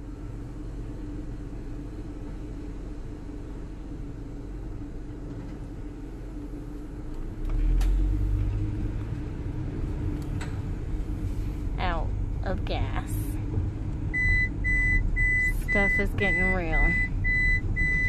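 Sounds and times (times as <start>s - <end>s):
van engine rumbling: 0.0s - 18.0s.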